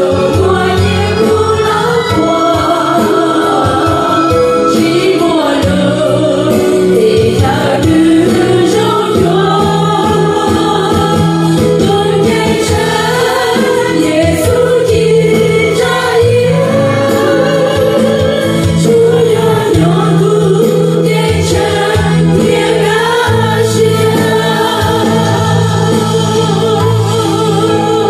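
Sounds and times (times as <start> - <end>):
choir singing with instruments: 0.0 - 28.0.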